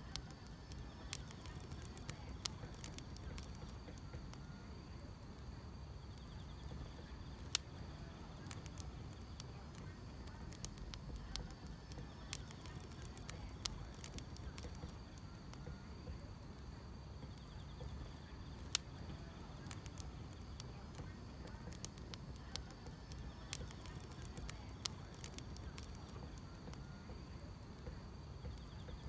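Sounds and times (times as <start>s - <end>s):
insects chirping: 0.0s - 29.0s
wood fire crackling and popping: 0.0s - 29.0s.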